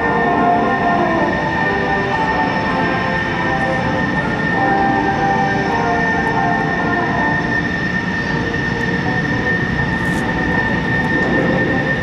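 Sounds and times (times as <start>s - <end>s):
jet engine running with whine: 0.0s - 12.0s.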